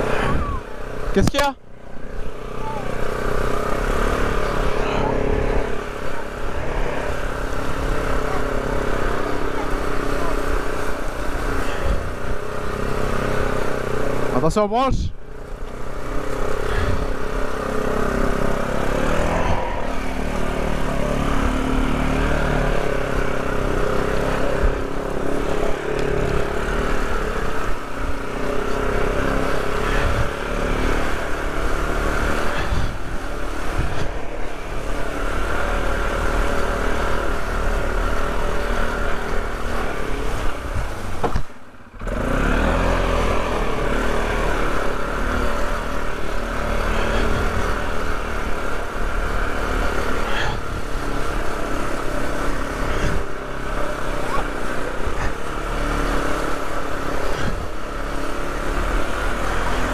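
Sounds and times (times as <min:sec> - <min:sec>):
off-road vehicle engine running: 0:00.0 - 0:59.9.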